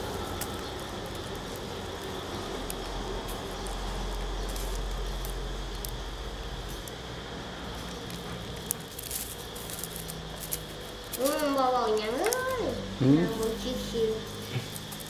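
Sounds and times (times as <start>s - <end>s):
faint clicks of leaf ribs: 0.0s - 12.7s, 14.3s - 15.0s
background hum and hiss: 0.0s - 15.0s.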